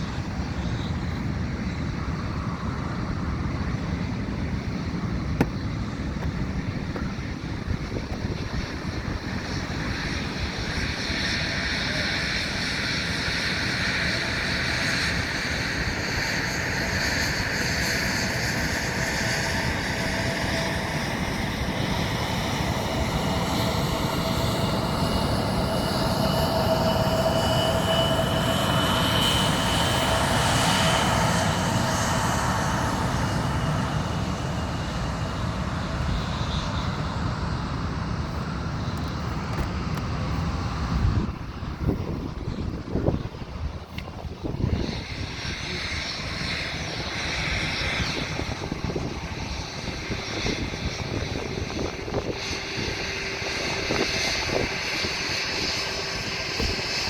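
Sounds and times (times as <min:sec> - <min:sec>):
airplane taking off: 0:00.0 - 0:57.0.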